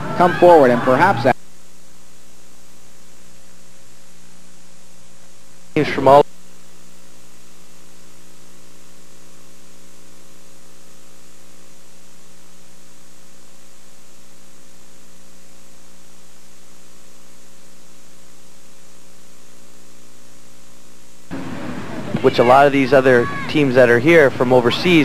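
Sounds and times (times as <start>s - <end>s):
constant hiss: 0.0s - 25.0s
electrical mains hum: 0.0s - 25.0s.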